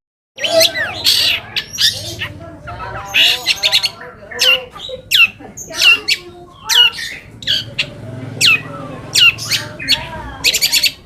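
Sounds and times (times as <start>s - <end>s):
bird harsh scolding calls: 0.4s - 11.0s.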